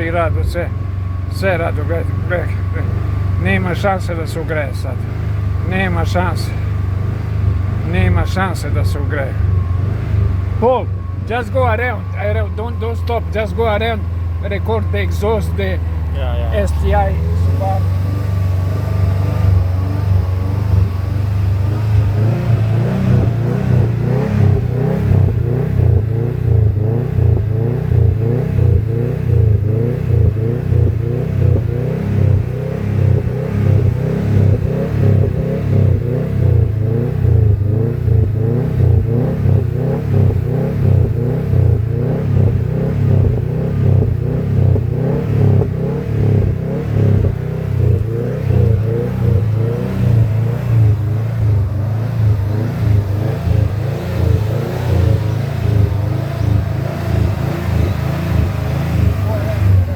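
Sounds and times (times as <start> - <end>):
car engine idling rumble: 0.0 - 59.9.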